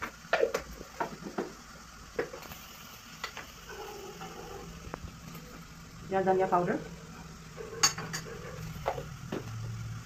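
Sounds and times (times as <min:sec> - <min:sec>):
onions and tomatoes frying faintly: 0:00.0 - 0:10.0.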